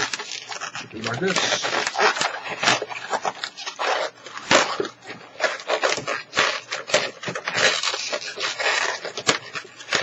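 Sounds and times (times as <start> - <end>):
balloons rubbing and scraping: 0.0 - 10.0.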